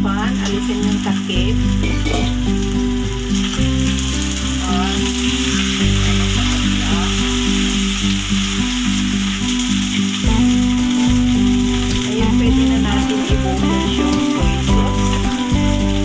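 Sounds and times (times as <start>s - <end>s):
background music: 0.0s - 16.0s
food sizzling in hot oil: 0.0s - 16.0s.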